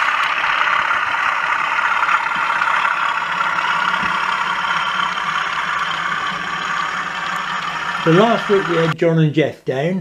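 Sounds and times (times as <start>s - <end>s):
locomotive engine drone: 0.0s - 9.0s
model train wagons rolling: 0.0s - 9.0s.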